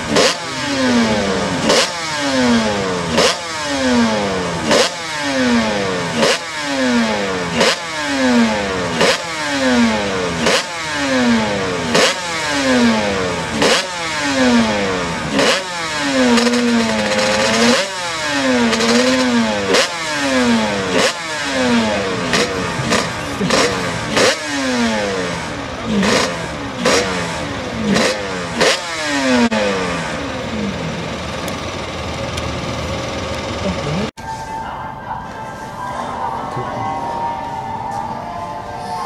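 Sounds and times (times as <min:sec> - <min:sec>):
motorcycle engine revving: 0:00.0 - 0:34.2.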